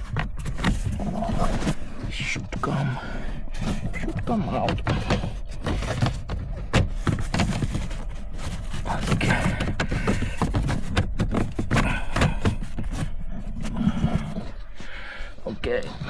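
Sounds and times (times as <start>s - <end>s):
plastic scraping and rustling: 0.0s - 15.4s.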